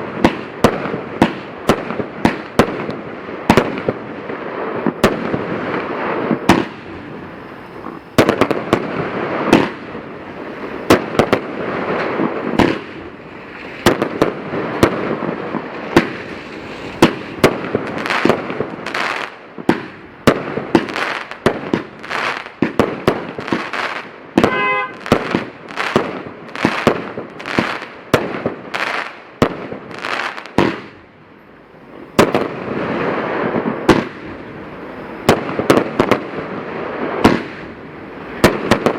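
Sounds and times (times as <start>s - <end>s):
fireworks sharp bangs: 0.0s - 31.2s, 31.8s - 38.9s
fireworks crackle: 0.0s - 38.9s.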